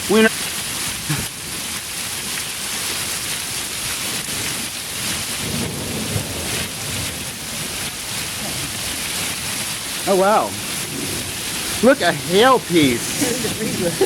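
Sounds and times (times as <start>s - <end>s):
hailstones ticking: 0.0s - 14.0s
heavy rain: 0.0s - 14.0s.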